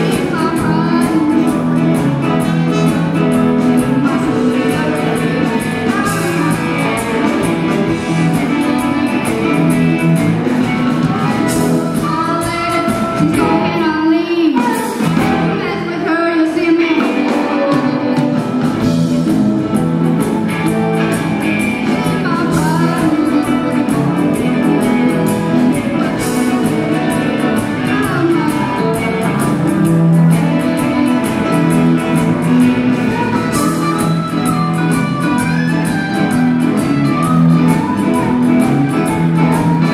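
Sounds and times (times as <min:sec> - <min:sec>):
bass guitar: 0:00.0 - 0:39.9
drum kit: 0:00.0 - 0:39.9
electric guitars: 0:00.0 - 0:39.9
keyboards: 0:00.0 - 0:39.9.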